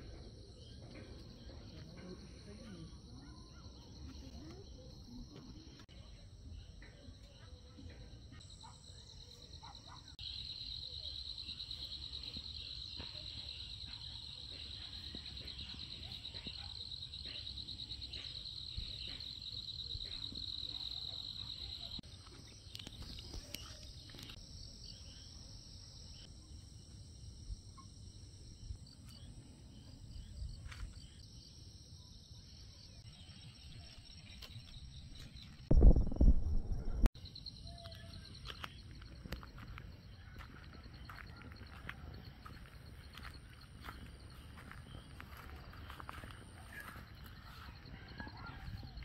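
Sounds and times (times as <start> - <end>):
rapidly pulsing insect trill: 8.4 - 49.0.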